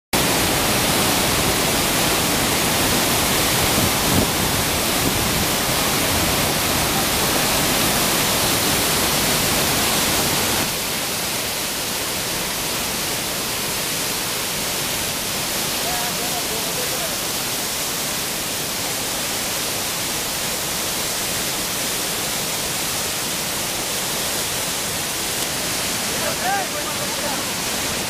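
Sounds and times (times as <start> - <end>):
waterfall rushing: 0.2 - 28.0.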